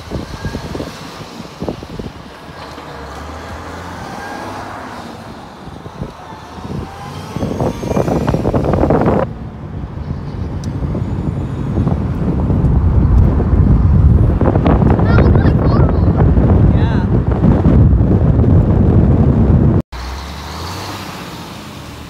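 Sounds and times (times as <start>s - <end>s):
truck diesel engine accelerating: 0.0s - 15.0s, 17.2s - 22.0s
car road noise: 0.0s - 22.0s.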